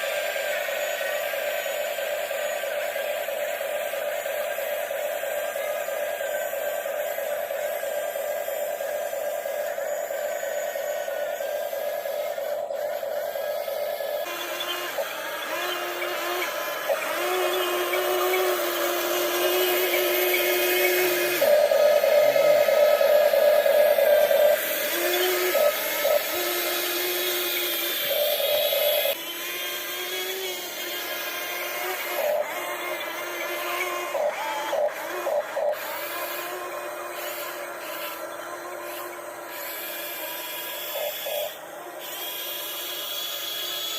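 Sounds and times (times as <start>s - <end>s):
toy electric motors whirring: 0.0s - 43.9s.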